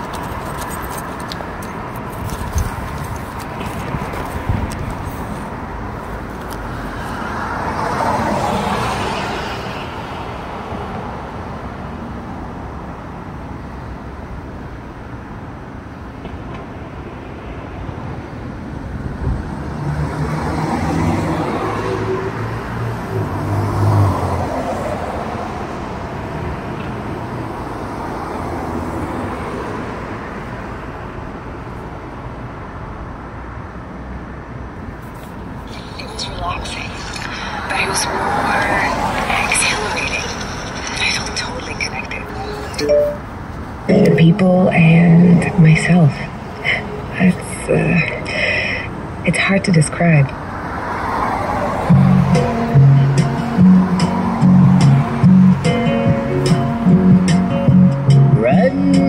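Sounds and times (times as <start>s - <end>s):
cars passing: 0.0s - 59.0s
vehicle engine hum: 0.0s - 59.0s.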